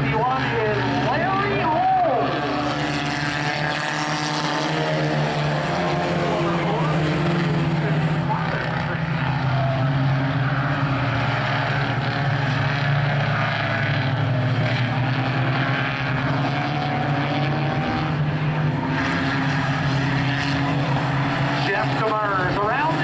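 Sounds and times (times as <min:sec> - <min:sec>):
racing car engines drone: 0:00.0 - 0:23.0.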